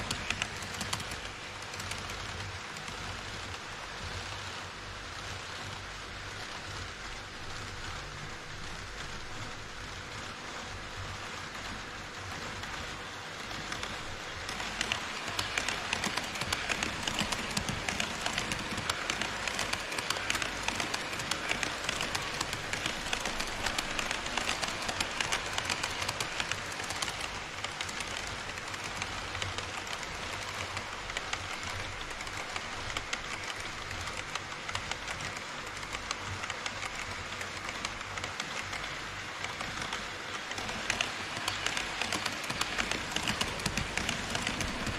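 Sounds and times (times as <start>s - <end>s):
model train wheels clicking on rails: 0.0s - 44.9s.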